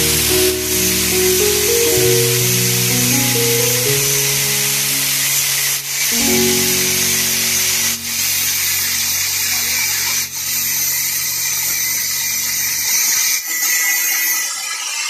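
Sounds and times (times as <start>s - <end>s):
angle grinder cutting wire mesh: 0.0s - 15.0s.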